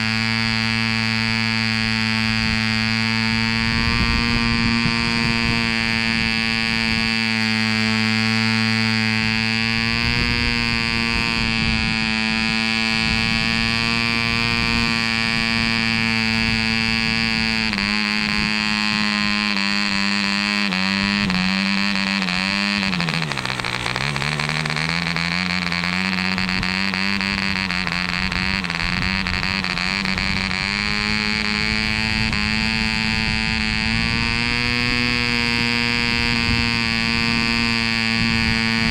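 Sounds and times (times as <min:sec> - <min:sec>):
model diesel engine buzzing: 0:00.0 - 0:38.9.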